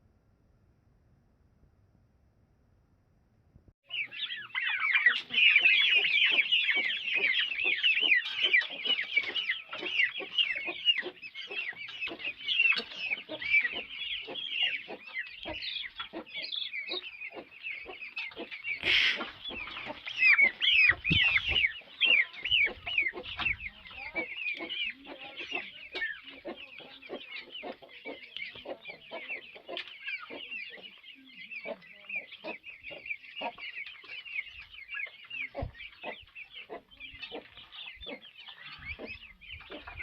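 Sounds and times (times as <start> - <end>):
young fowl chirping and peeping: 3.8 - 40.0.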